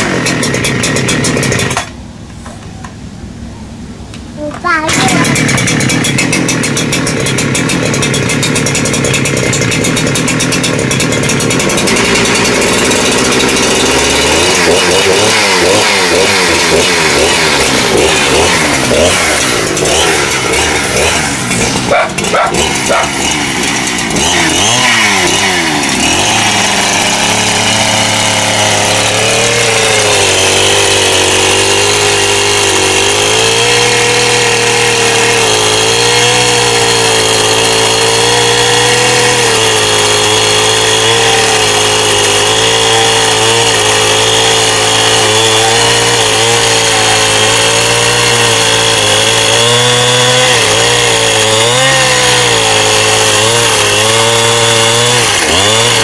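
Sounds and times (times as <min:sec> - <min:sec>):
chainsaw cutting wood: 0:00.0 - 0:02.0, 0:04.4 - 0:56.0.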